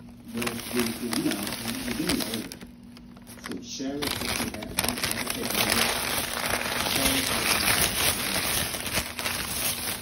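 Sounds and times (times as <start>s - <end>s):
wrapping paper crinkling: 0.0s - 10.0s.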